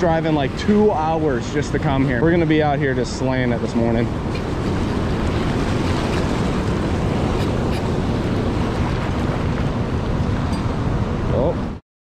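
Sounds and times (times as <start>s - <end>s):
river rushing through rapids: 0.0s - 11.8s
wind buffeting microphone: 0.0s - 11.8s.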